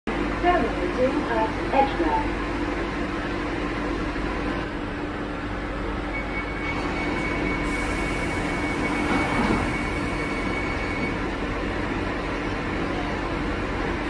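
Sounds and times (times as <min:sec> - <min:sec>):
train carriage hum: 0:00.1 - 0:14.0.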